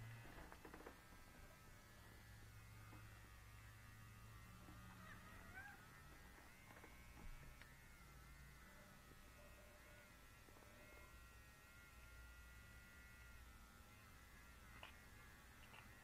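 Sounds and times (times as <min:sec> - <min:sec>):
small vibrator buzzing: 0:00.0 - 0:16.0.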